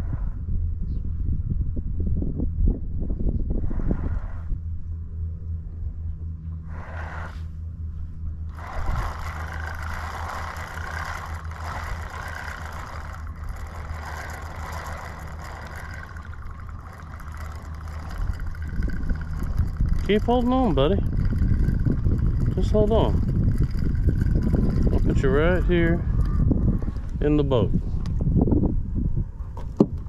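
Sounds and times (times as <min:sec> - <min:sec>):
motor humming: 0:03.4 - 0:30.0.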